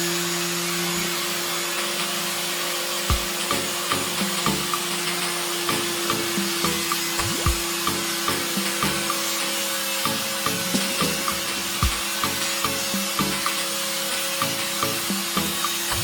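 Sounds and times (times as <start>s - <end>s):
small electric power tool humming: 0.0s - 16.0s
hiss of abrasive work: 1.0s - 16.0s.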